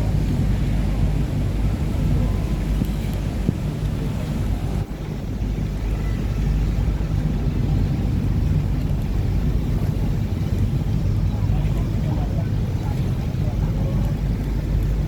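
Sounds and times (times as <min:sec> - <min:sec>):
boat engine drone: 0:00.0 - 0:15.0.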